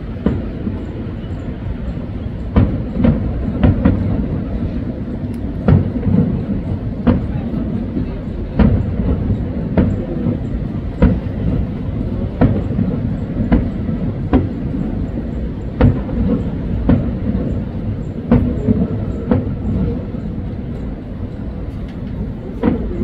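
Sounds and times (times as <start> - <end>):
fireworks shells bursting: 0.0 - 23.0
steady low rumble: 0.0 - 23.0.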